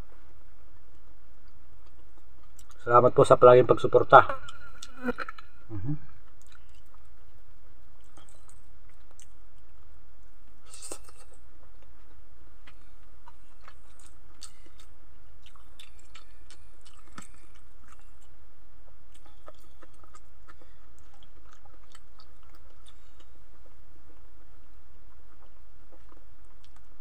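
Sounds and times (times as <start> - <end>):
steady low hum: 0.0 - 27.0
man chewing vegetables: 0.8 - 2.8, 4.4 - 27.0.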